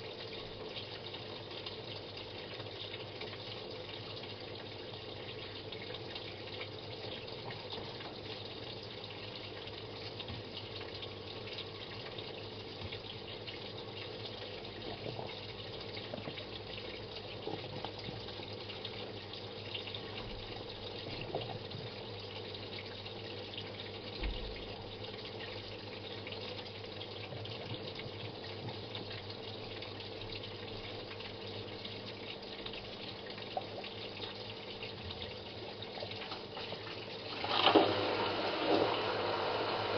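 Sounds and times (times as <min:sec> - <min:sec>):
washing machine low hum: 0:00.0 - 0:39.9
water running in washing machine: 0:00.0 - 0:39.9.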